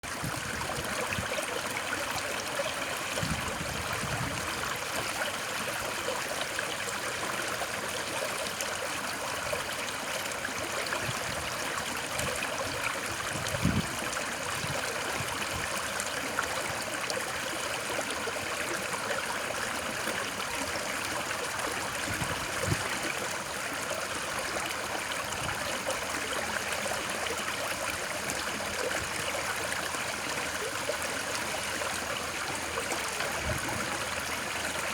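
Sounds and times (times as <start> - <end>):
low water gurgles: 0.0 - 34.9
stream water rushing: 0.0 - 34.9.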